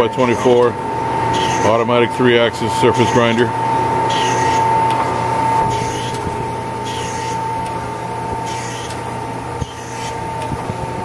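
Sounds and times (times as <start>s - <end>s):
grinder whine and hum: 0.0s - 11.0s.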